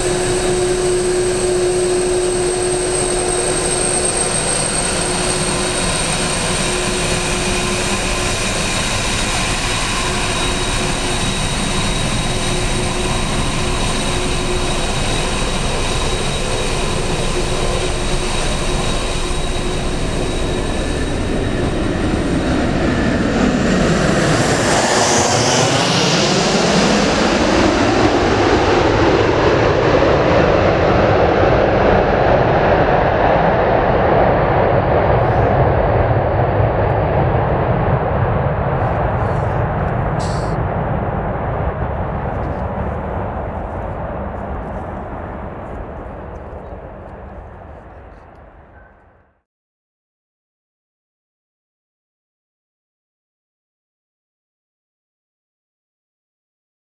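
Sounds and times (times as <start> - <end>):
landing airliner jet rumble: 0.0 - 49.2
jet engines running with whine: 0.0 - 49.3.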